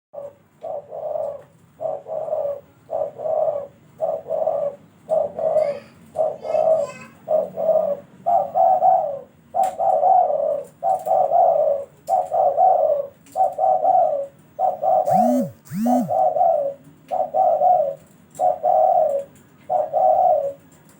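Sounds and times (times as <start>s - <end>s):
dove cooing: 0.2s - 16.5s, 17.2s - 20.6s.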